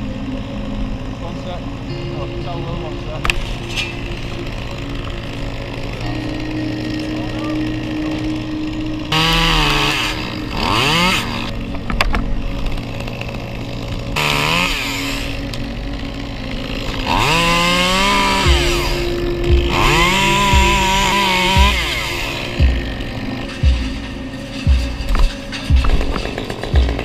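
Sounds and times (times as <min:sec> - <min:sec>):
chainsaw idling and revving: 0:00.0 - 0:27.0.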